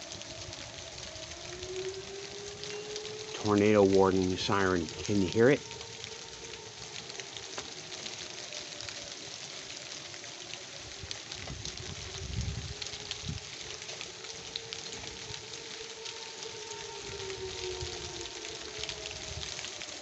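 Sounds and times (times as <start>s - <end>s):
rain falling: 0.0s - 20.0s
warning siren wailing: 0.0s - 20.0s.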